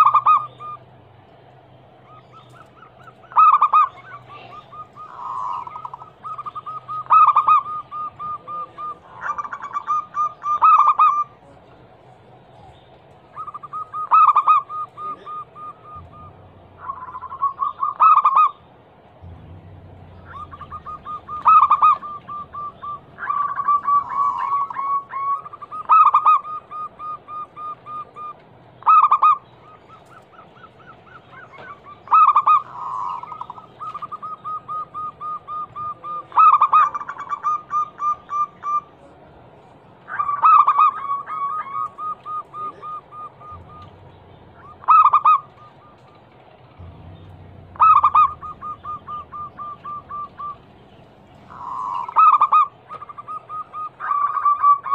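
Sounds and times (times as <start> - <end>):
dove cooing: 0.0 - 1.0, 2.0 - 11.9, 12.6 - 18.6, 19.2 - 39.4, 40.0 - 54.9.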